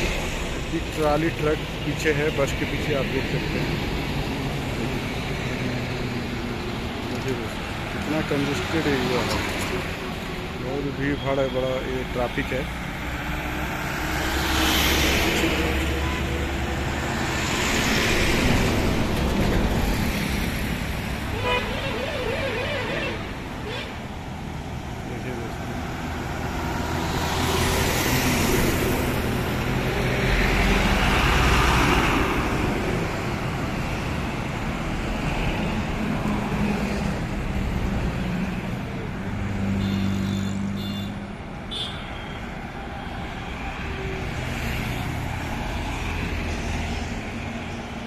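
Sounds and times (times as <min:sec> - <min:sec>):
trucks and cars passing: 0:00.0 - 0:48.0.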